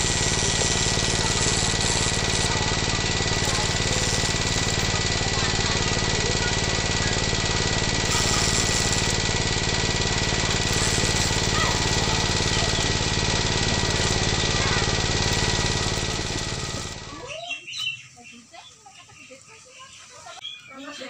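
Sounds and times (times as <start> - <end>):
small electric motor running: 0.0 - 17.3.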